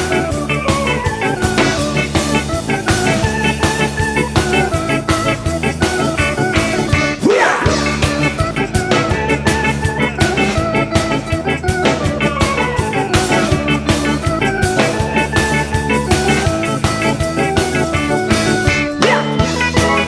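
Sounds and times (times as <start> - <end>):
rock music with electric guitar: 0.0 - 20.0.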